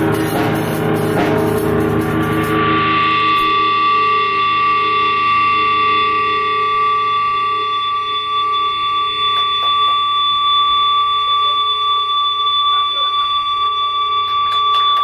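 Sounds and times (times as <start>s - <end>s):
high-pitched feedback howl: 0.0s - 15.0s
low hum: 0.0s - 15.0s.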